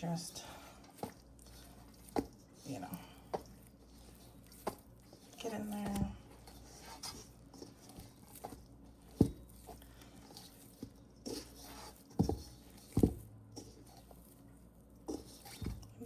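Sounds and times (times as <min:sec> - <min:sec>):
wet dough squelching: 0:00.0 - 0:16.0
dough dull thumps: 0:00.9 - 0:03.8, 0:04.5 - 0:14.0, 0:15.0 - 0:16.0.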